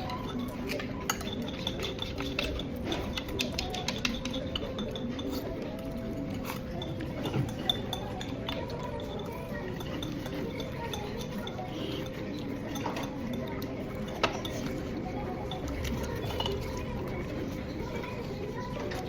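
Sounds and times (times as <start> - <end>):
utensils clinking on a dish: 0.0 - 19.0.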